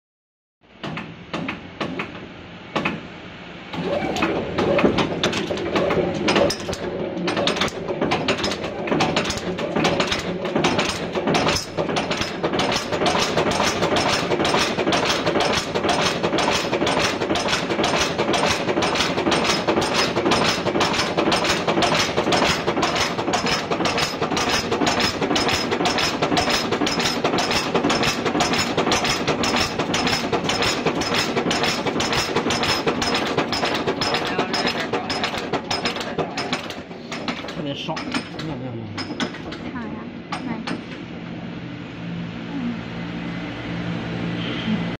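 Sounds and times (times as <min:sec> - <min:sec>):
nail making machine clatter: 0:03.7 - 0:39.7.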